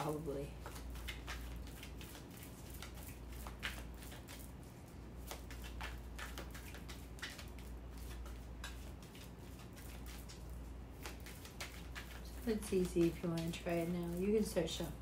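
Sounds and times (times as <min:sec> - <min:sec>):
low steady hum: 0:00.0 - 0:15.0
cards being shuffled: 0:00.6 - 0:04.6, 0:05.2 - 0:14.9.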